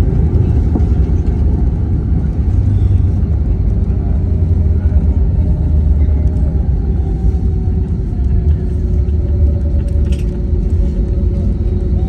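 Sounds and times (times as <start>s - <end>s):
aircraft cabin rumble taxiing: 0.0s - 12.0s.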